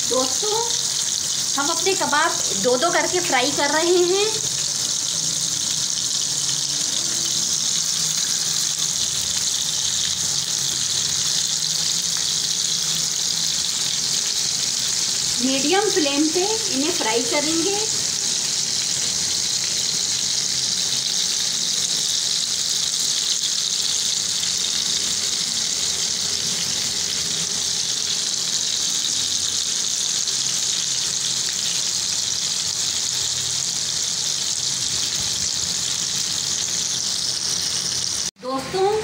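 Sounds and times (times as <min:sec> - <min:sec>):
food sizzling in hot oil: 0:00.0 - 0:39.0.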